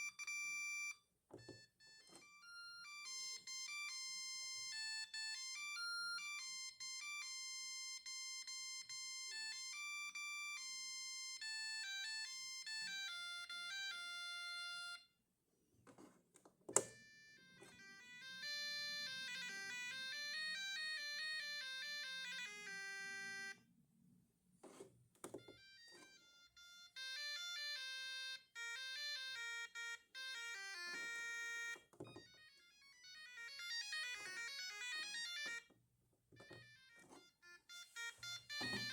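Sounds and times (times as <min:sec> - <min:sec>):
electronic ringtone melodies: 0:00.0 - 0:15.1, 0:16.8 - 0:23.6, 0:25.4 - 0:35.7, 0:36.4 - 0:38.9.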